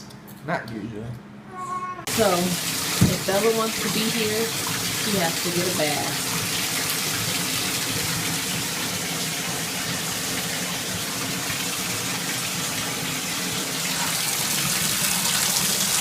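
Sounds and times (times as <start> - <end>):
tap water filling bathtub: 2.1 - 16.0.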